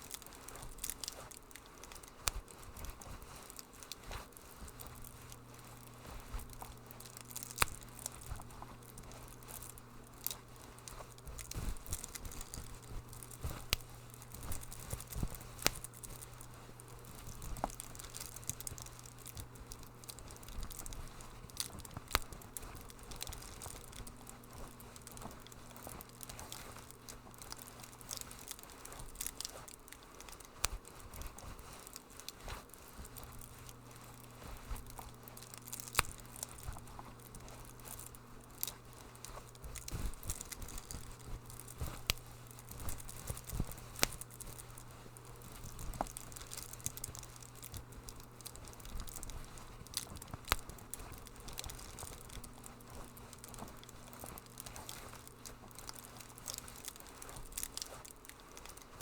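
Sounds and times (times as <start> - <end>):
low steady hum: 0.0 - 59.0
wood fire crackling and popping: 0.0 - 59.0.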